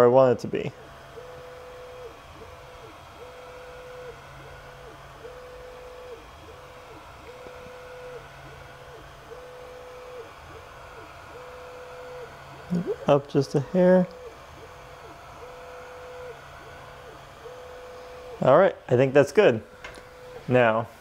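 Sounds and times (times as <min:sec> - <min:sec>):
stepper motors whining: 0:00.0 - 0:20.7.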